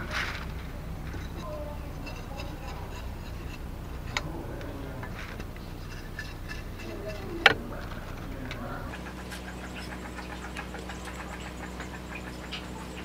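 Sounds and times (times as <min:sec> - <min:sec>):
bamboo strips rustling and clicking: 0:00.0 - 0:13.0.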